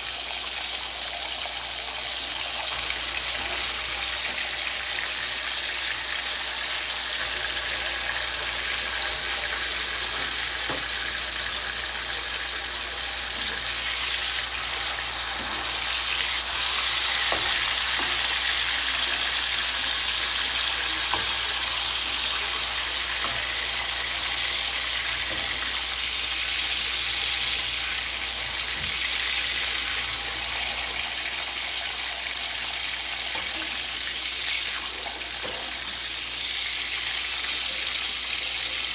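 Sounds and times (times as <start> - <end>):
ham sizzling in hot oil: 0.0 - 38.9.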